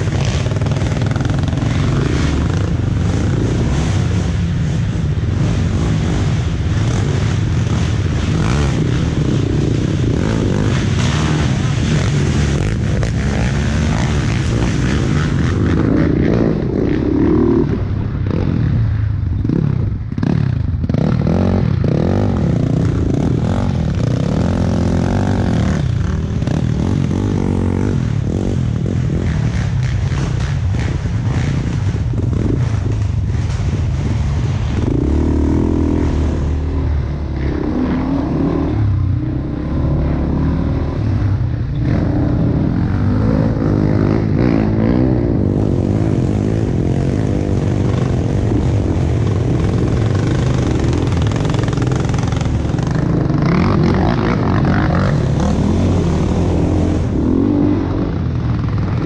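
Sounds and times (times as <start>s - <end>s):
engine revving: 0.0s - 59.0s.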